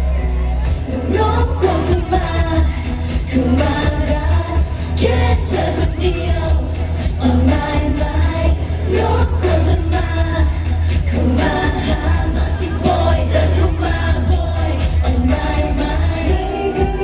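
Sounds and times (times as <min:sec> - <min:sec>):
heavy steady bass: 0:00.0 - 0:17.0
live pop song over speakers: 0:00.0 - 0:17.0
group vocals singing: 0:00.8 - 0:17.0.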